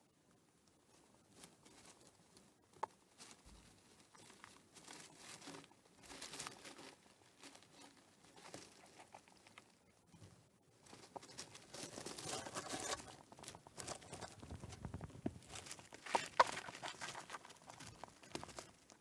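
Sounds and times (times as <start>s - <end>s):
hamster rustling and scratching: 1.0s - 19.0s.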